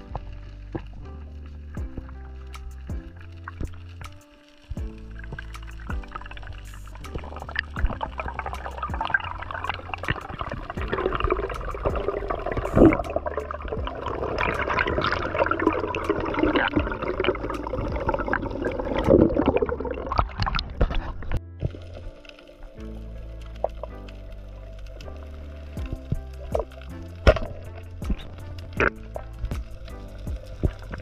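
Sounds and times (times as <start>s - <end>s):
background music: 0.0s - 31.0s
underwater air bubbles gurgling: 4.8s - 31.0s.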